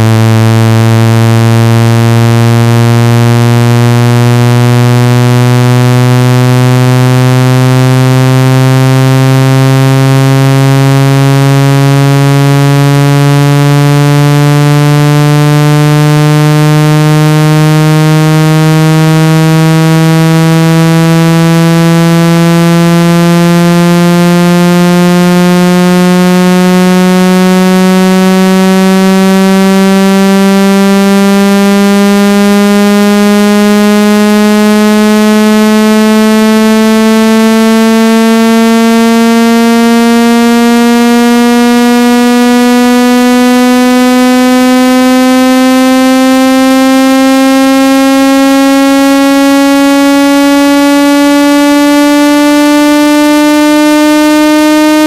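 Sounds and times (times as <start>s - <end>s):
buzzy electronic tone rising in pitch: 0.0s - 55.0s.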